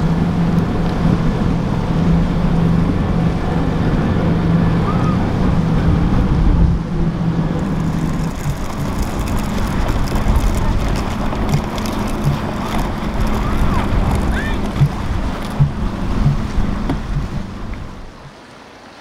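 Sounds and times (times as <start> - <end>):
wind buffeting microphone: 0.0 - 18.4
motorboat engine droning: 0.0 - 19.0.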